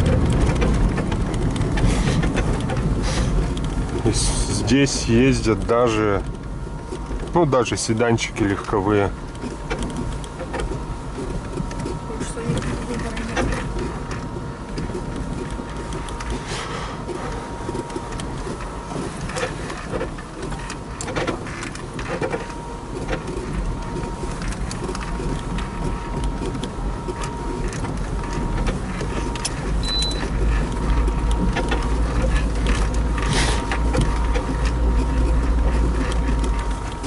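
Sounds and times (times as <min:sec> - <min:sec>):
car body rattling over bumps: 0:00.0 - 0:37.0
car engine and tyres rumbling: 0:00.0 - 0:37.0.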